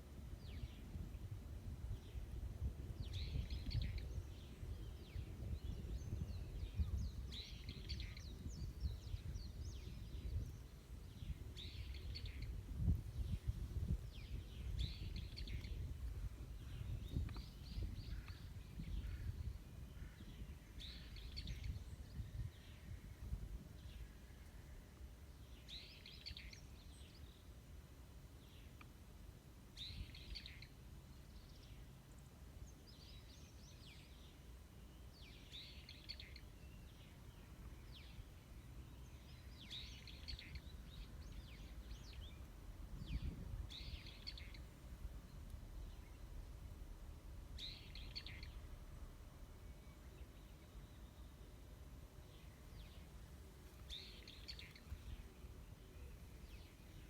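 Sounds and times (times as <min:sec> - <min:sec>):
faint bird chirping: 0:01.9 - 0:29.1, 0:29.7 - 0:57.0.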